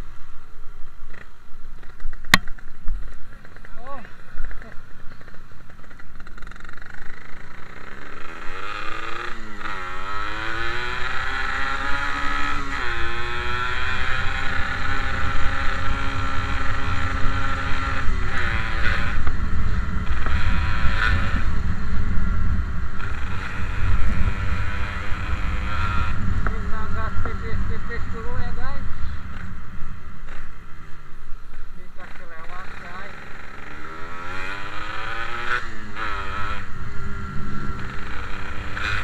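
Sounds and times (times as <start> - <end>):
motorcycle engine accelerating: 1.0 - 39.0.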